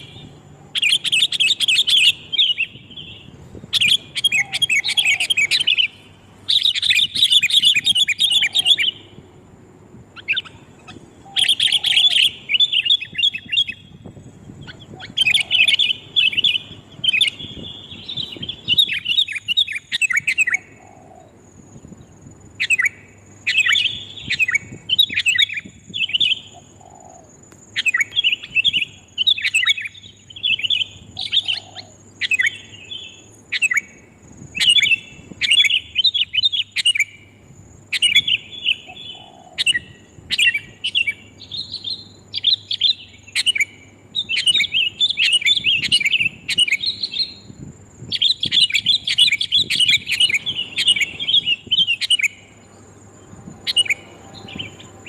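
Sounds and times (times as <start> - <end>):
birds chattering chirps: 0.0 - 55.0.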